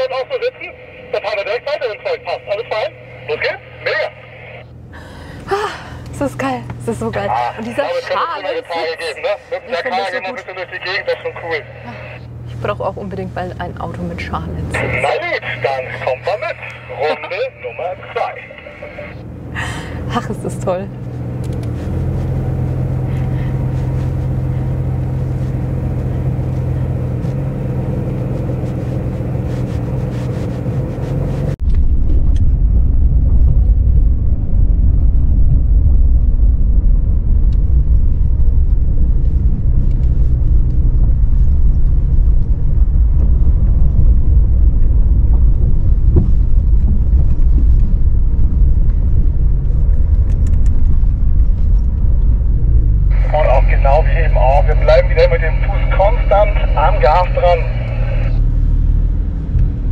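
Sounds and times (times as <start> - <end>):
car engine running: 0.0 - 32.3, 33.1 - 59.9
car rumbling over rough ground: 1.2 - 59.9.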